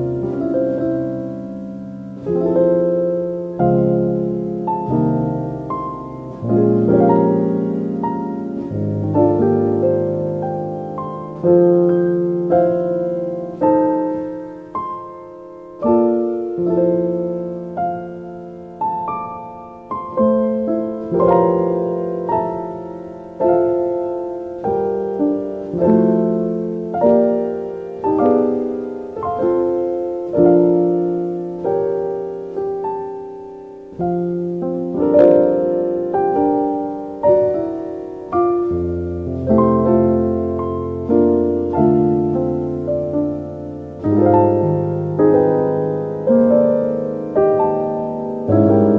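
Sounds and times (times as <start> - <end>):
slow gentle piano music: 0.0 - 48.9.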